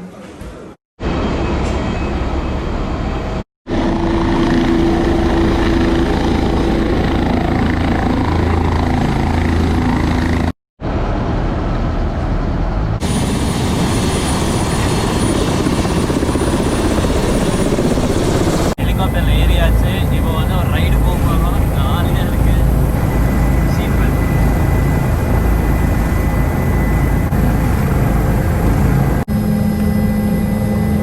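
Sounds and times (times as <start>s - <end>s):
helicopter engine and rotor: 1.2s - 31.0s.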